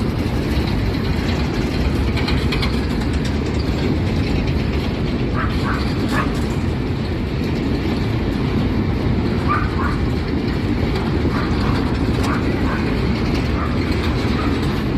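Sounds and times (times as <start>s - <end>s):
freight train rumbling past: 0.0s - 14.9s.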